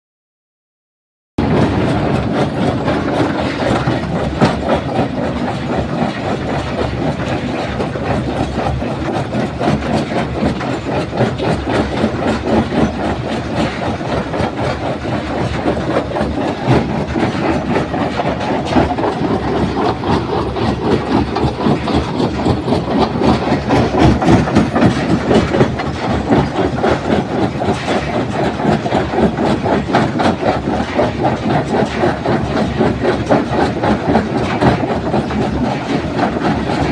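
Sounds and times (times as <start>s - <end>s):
rattling clatter of rock: 1.4s - 36.9s
stone crusher machinery running: 1.4s - 36.9s.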